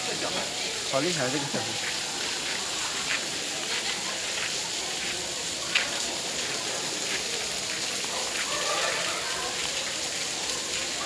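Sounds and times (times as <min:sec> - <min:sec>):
rain pattering: 0:00.0 - 0:11.0
water dripping: 0:00.0 - 0:11.0.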